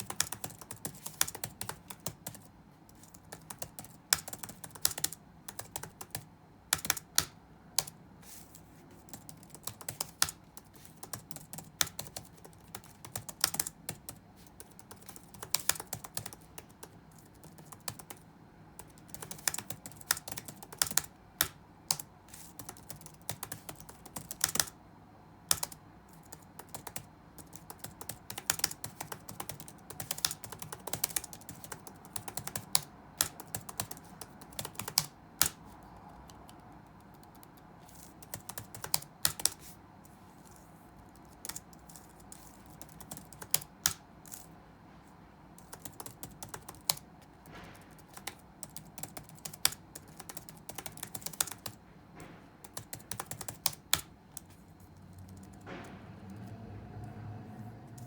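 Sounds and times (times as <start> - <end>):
keyboard typing: 0.0 - 24.8, 25.4 - 44.5, 45.6 - 56.6.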